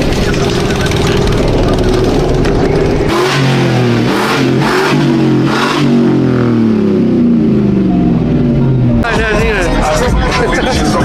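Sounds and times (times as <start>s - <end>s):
loud exhaust blasts: 0.0s - 9.6s
truck engine revving: 0.0s - 11.0s.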